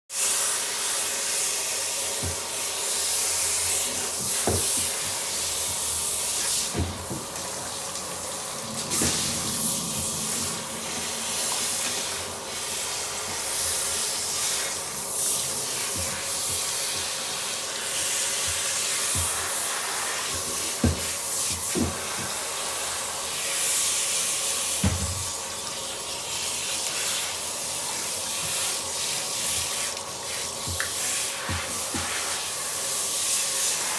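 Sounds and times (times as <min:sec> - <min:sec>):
water running from a tap: 0:00.1 - 0:33.9.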